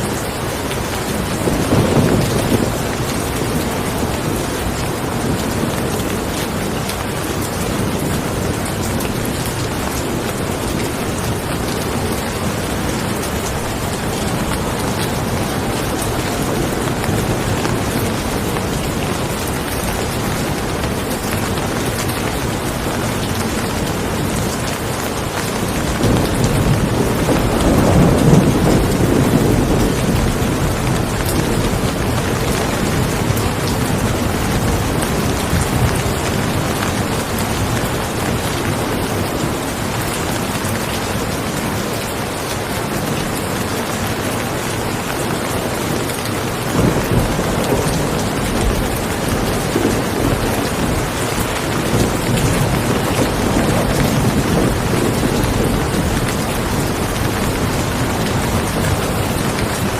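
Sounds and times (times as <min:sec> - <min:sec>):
heavy rain: 0:00.0 - 0:59.9
rolling thunder: 0:01.1 - 0:39.8, 0:45.8 - 0:59.9.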